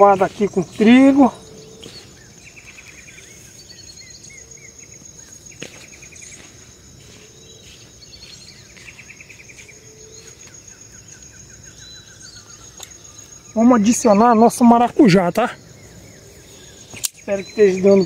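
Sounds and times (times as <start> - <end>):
birds calling: 0.0 - 18.0
high insect buzz: 0.0 - 18.0.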